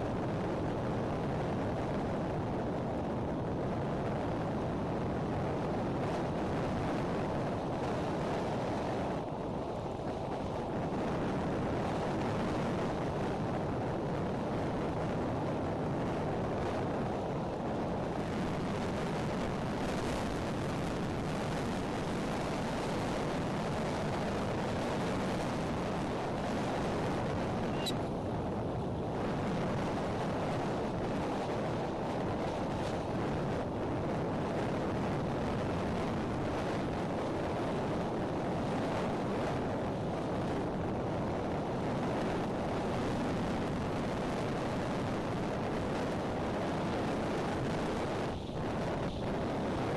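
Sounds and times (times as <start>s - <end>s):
wind on microphone: 0.0s - 49.9s.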